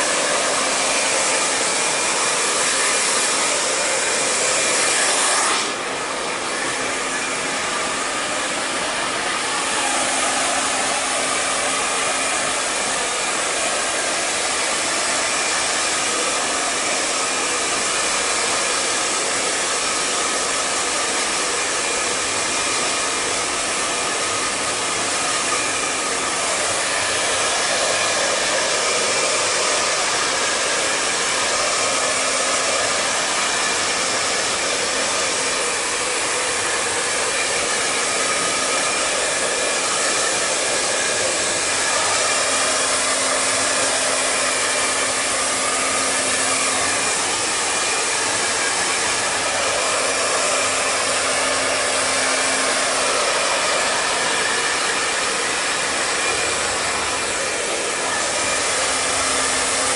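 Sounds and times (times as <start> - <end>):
hair dryer blowing: 0.0 - 59.9.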